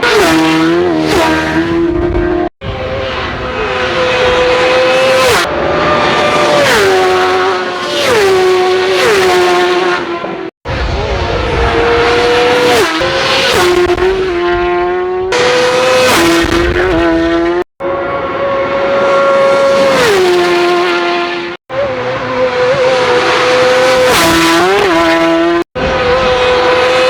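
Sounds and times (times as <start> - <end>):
racing motorcycles passing by: 0.0 - 27.0.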